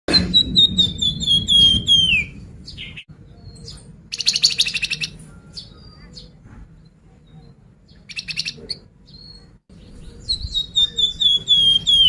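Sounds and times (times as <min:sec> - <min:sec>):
songbird whistling song: 0:00.1 - 0:12.0.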